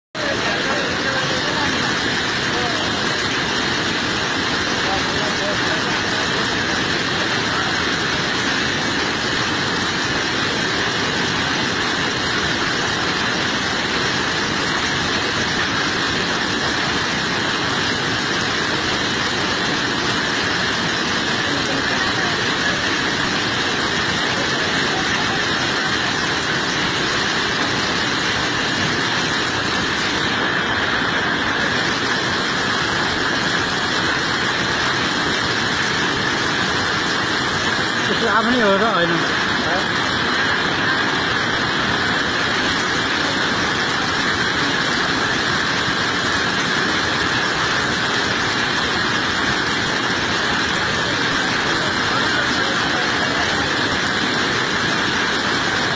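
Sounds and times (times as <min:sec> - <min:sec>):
floodwater rushing: 0:00.1 - 0:55.9.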